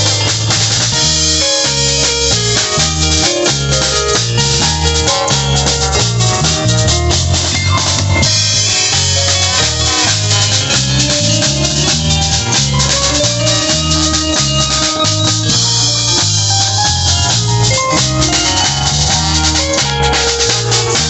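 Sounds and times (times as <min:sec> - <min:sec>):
bass line: 0:00.0 - 0:21.0
drum kit beat: 0:00.0 - 0:21.0
held melody notes: 0:00.0 - 0:21.0.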